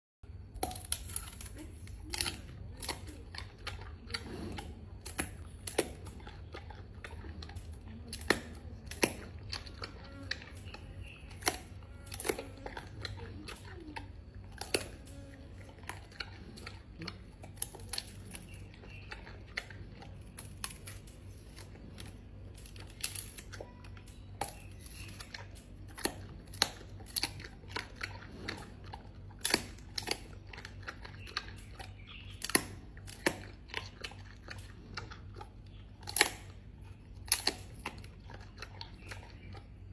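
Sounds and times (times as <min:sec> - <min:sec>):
panda chewing bamboo cracks: 0:00.5 - 0:39.9.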